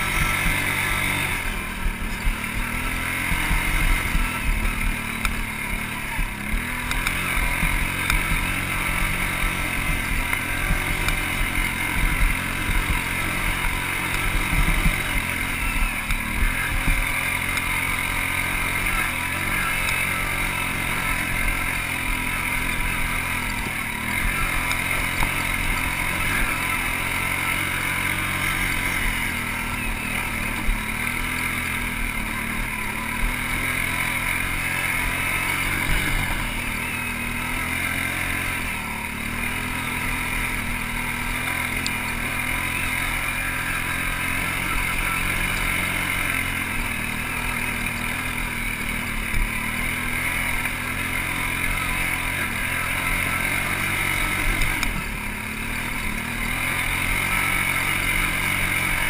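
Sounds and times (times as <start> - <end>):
atv engine running under load: 0.0 - 59.0.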